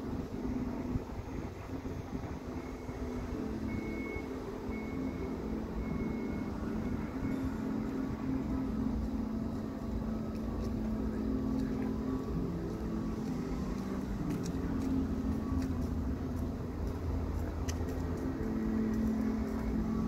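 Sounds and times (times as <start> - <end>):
constant low hum: 0.0 - 20.0
low traffic rumble: 0.0 - 20.0.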